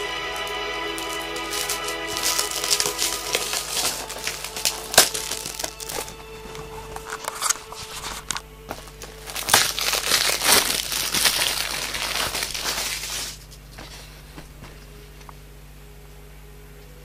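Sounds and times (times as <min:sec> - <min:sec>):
plastic wrapping crinkling: 0:00.0 - 0:15.2.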